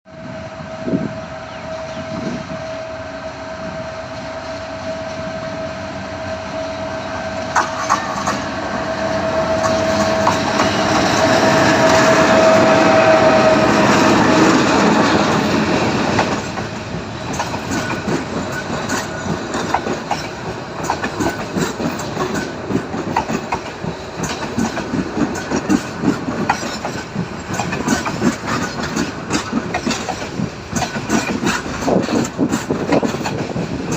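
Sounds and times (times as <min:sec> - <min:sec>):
train engine noise: 0:00.1 - 0:33.9
train wheels clickety-clack: 0:04.1 - 0:33.9.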